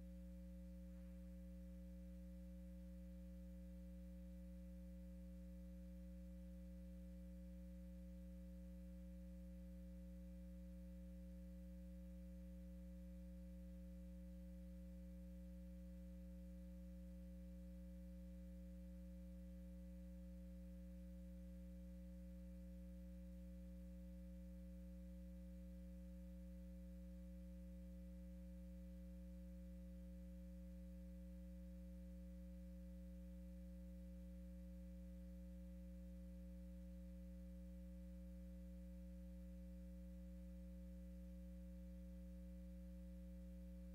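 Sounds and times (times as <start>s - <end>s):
faint electrical hum: 0.0s - 43.9s.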